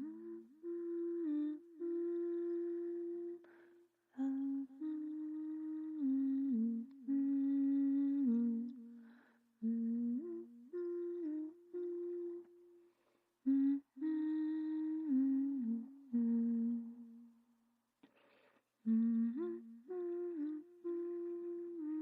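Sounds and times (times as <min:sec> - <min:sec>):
person humming a slow melody: 0:00.0 - 0:17.5, 0:18.8 - 0:22.0.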